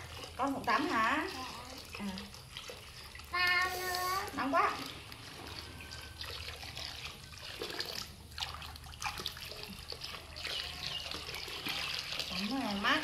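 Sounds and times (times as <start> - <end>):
water pouring into basin: 0.0 - 13.0.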